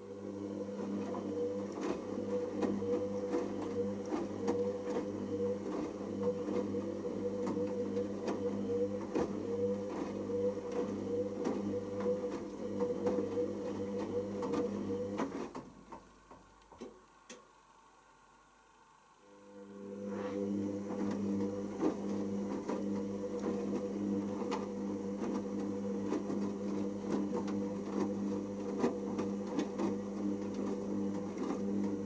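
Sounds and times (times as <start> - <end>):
washing machine motor humming: 0.0 - 32.0.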